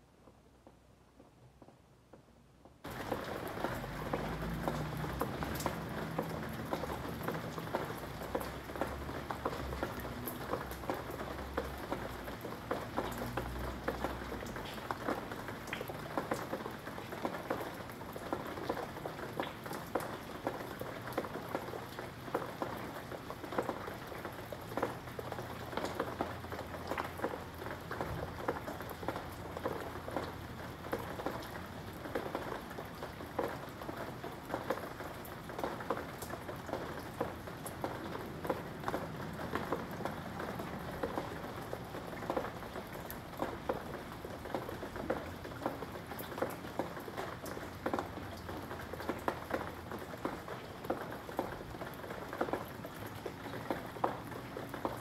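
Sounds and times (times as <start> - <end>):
steady rain falling: 0.0 - 55.0
raindrops tapping: 0.2 - 55.0.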